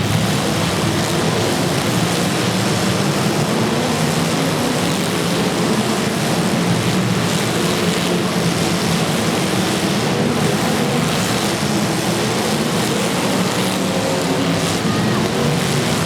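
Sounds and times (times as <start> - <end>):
car engines running loud: 0.0 - 16.0.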